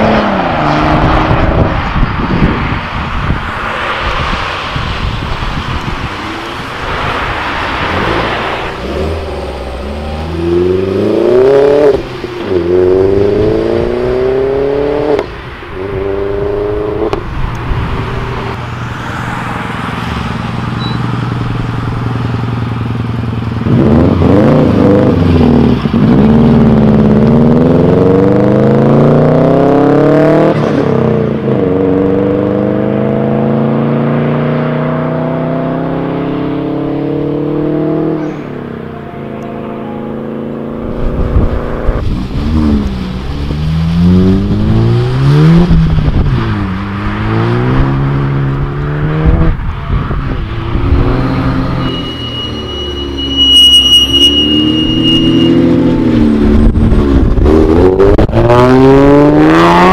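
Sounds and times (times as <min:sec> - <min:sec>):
car engine accelerating hard: 0:00.0 - 0:59.9
car engine revving: 0:00.0 - 0:59.9.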